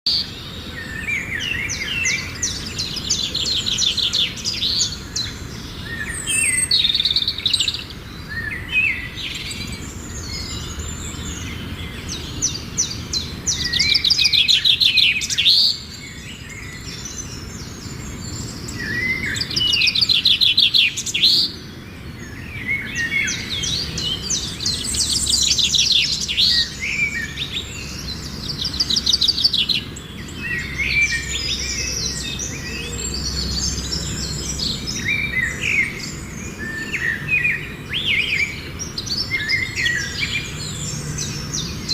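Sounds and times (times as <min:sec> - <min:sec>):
songbirds singing and calling: 0:00.0 - 0:41.9.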